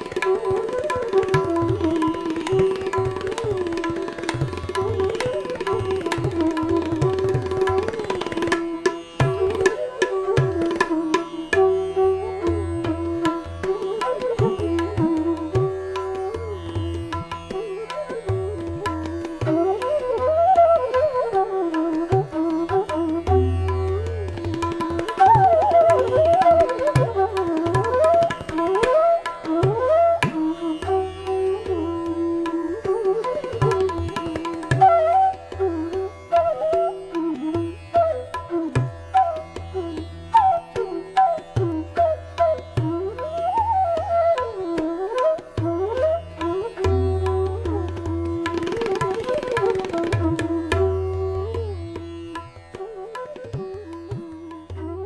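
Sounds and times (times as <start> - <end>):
tabla strokes: 0.0 - 55.0.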